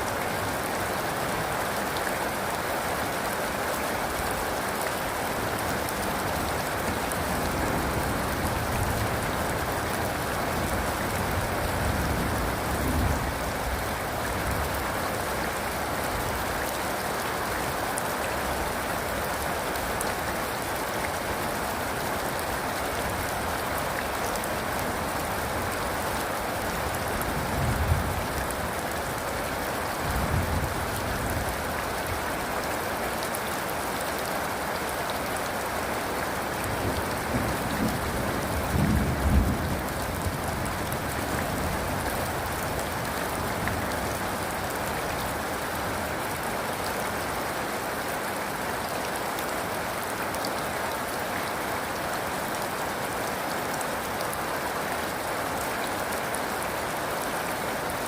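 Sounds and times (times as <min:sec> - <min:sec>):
rain pouring: 0:00.0 - 0:58.0.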